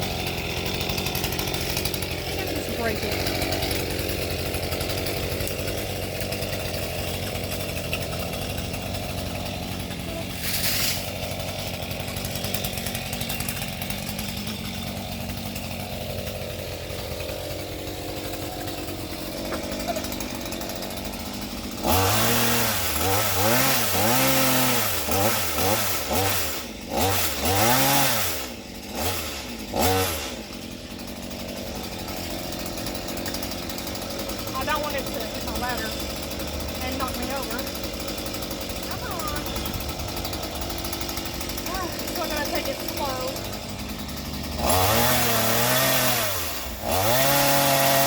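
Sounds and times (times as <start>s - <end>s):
chainsaw idling and revving: 0.0s - 48.0s.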